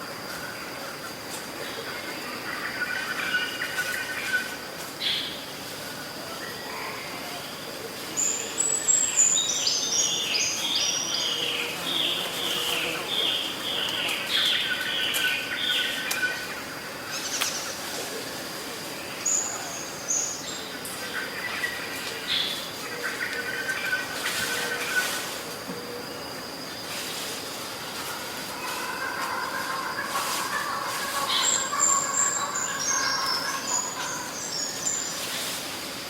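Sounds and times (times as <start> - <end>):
high insect drone: 0.0 - 36.0
songbird chirping: 6.3 - 35.6.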